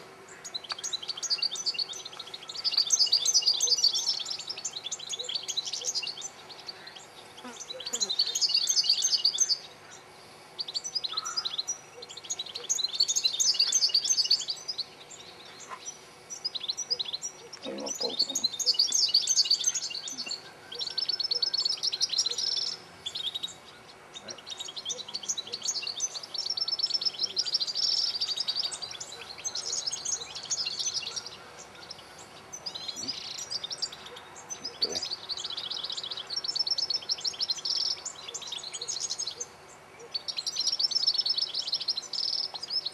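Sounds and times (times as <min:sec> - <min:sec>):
goldfinches singing: 0:00.0 - 0:42.9.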